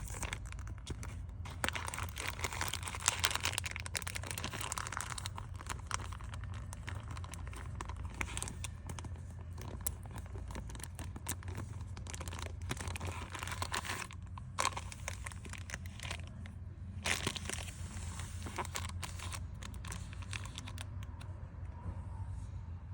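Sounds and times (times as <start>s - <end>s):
plastic packaging crinkling: 0.0s - 21.3s.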